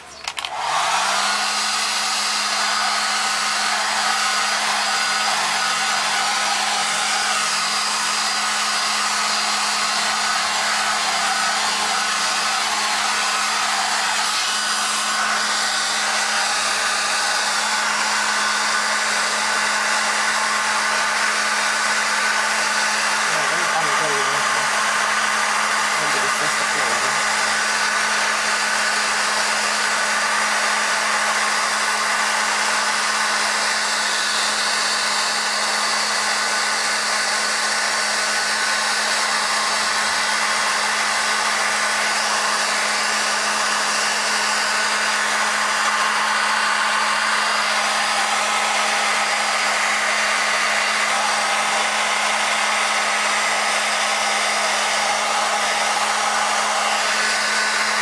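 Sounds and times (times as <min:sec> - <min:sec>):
blow dryer running: 0:00.0 - 0:58.0.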